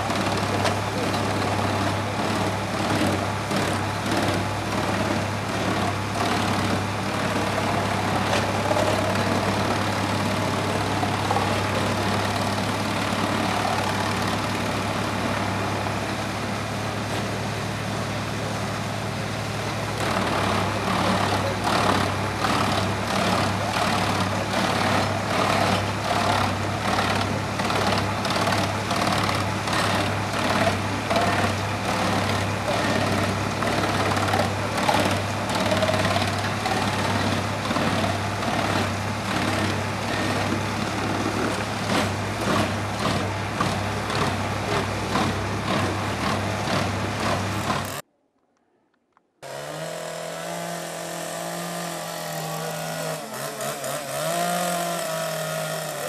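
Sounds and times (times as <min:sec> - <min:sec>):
wood chipper chopping log: 0:00.0 - 0:16.1, 0:19.2 - 0:48.0, 0:49.4 - 0:56.0
tractor engine drone: 0:00.0 - 0:48.1, 0:49.4 - 0:56.0.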